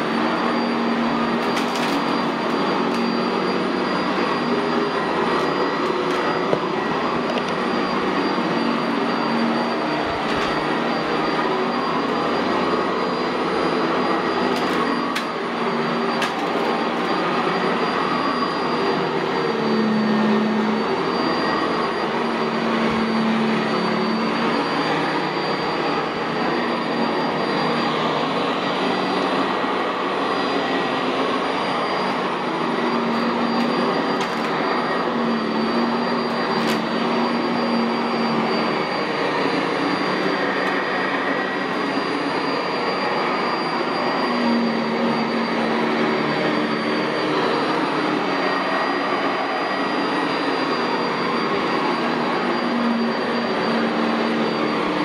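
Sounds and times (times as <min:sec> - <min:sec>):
vacuum cleaner motor drone: 0:00.0 - 0:55.0.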